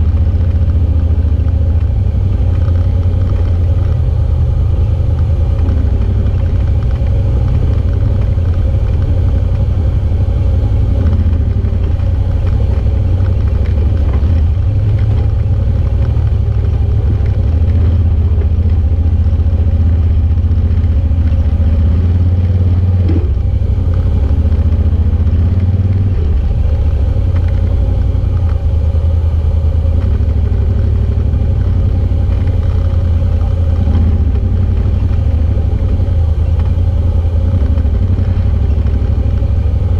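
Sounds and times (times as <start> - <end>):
utility vehicle engine droning: 0.0 - 39.9.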